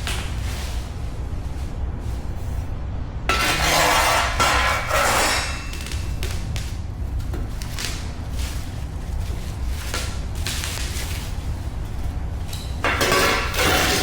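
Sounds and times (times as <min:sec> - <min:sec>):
loud rustling and clattering: 0:00.0 - 0:02.7, 0:03.3 - 0:14.0.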